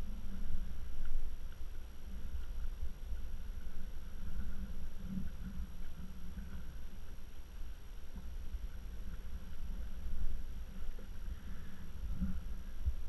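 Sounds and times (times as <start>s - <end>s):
water around a kayak: 0.0s - 13.0s
wind at sea: 0.0s - 13.0s.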